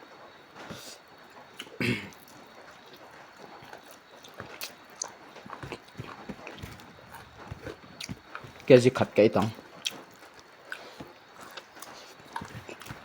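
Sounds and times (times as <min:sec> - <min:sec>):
chewing with wet mouth clicks: 0:01.6 - 0:08.7, 0:09.4 - 0:13.0.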